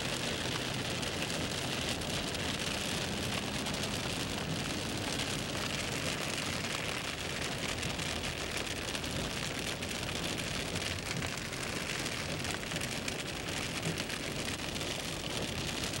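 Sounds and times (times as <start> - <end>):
rain striking car: 0.0 - 16.0
tyres hissing on wet road: 0.0 - 16.0.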